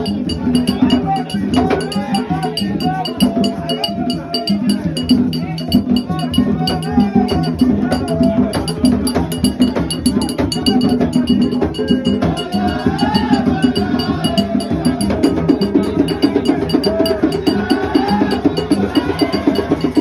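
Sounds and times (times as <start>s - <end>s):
clacking wooden percussion: 0.0s - 20.0s
hand drums: 0.0s - 20.0s
voices singing: 0.0s - 20.0s.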